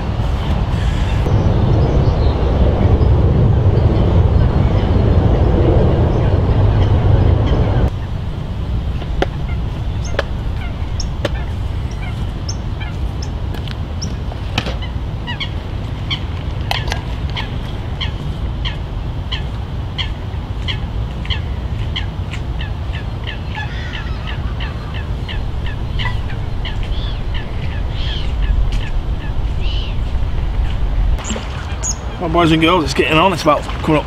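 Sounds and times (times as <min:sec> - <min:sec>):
low background rumble: 0:00.0 - 0:33.5.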